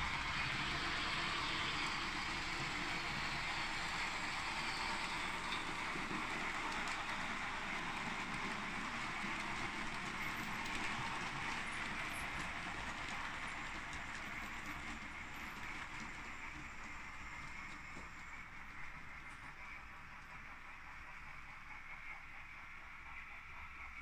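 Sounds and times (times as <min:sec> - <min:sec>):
model trains whirring and rattling: 0:00.0 - 0:24.0.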